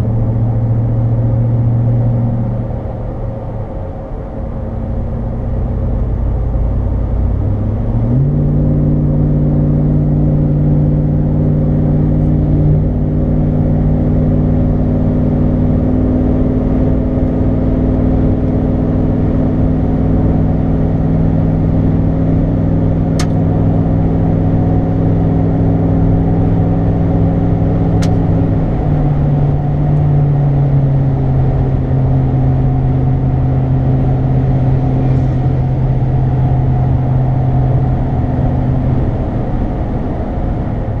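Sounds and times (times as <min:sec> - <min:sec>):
truck engine and exhaust drone: 0:00.0 - 0:41.0.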